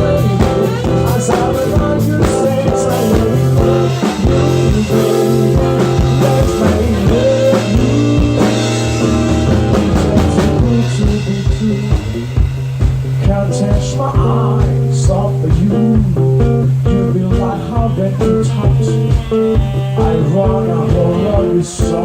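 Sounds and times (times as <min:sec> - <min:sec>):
bass guitar: 0:00.0 - 0:22.0
drum kit beat: 0:00.0 - 0:22.0
electric guitar: 0:00.0 - 0:22.0.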